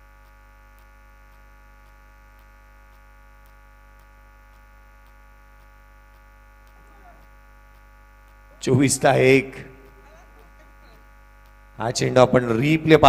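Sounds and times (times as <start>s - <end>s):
faint ticks: 0.0s - 8.6s, 9.8s - 11.8s
electrical mains hum: 0.0s - 13.0s.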